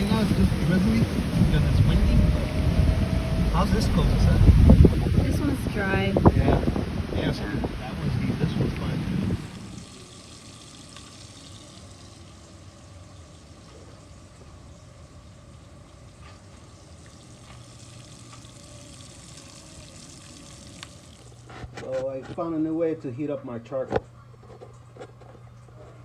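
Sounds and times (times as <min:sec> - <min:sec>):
faint crackles: 0:00.0 - 0:22.5.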